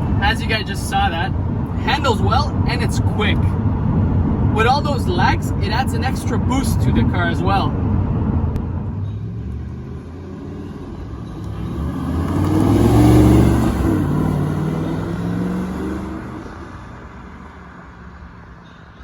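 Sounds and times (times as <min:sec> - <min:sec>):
car engine passing: 0:00.0 - 0:18.1.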